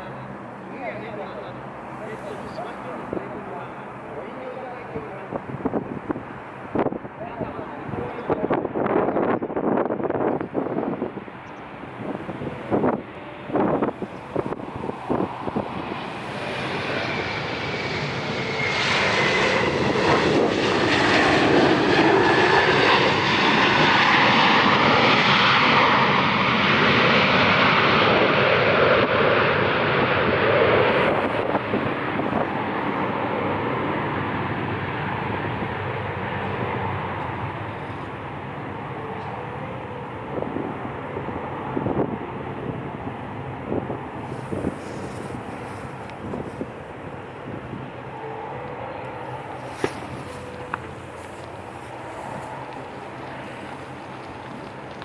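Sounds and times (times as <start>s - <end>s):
jet engines passing with whine: 0.0s - 55.0s.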